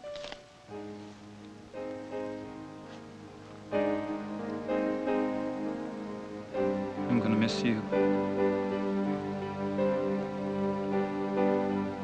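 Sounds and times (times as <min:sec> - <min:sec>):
slow keyboard chords: 0:00.0 - 0:12.0.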